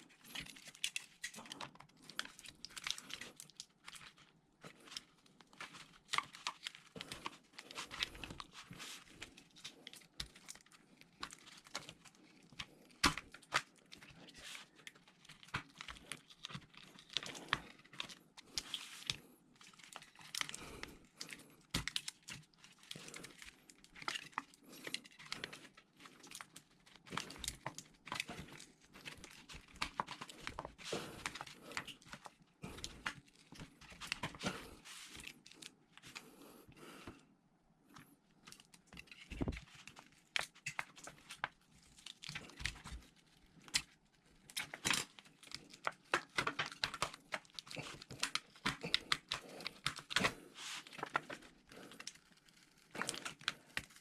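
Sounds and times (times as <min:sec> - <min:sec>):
thin plastic crinkling and tearing: 0:00.0 - 0:36.6, 0:37.9 - 0:54.0.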